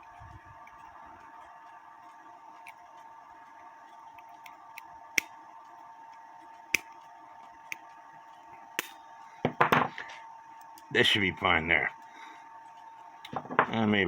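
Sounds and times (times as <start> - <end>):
steady faint hum: 0.0 - 14.0.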